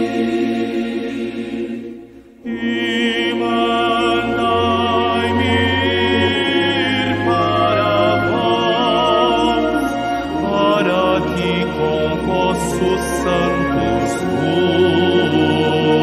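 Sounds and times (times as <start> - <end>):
choir singing long notes: 0.0 - 16.0.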